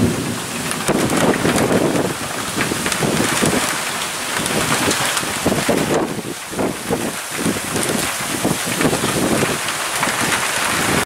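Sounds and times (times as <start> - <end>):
gusty wind buffeting microphone: 0.0 - 11.0
rain hiss: 0.0 - 11.0.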